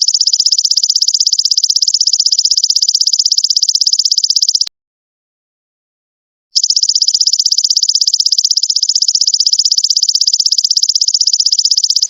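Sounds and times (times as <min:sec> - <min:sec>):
insect pulsing trill: 0:00.0 - 0:04.7, 0:06.6 - 0:12.0.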